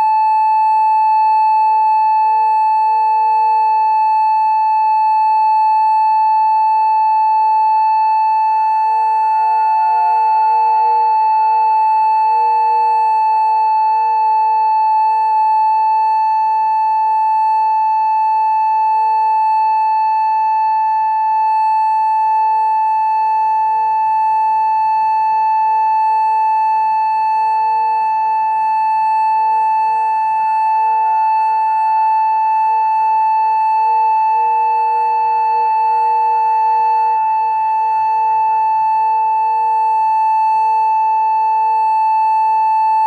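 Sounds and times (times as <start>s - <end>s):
electronic siren steady tone: 0.0s - 43.0s.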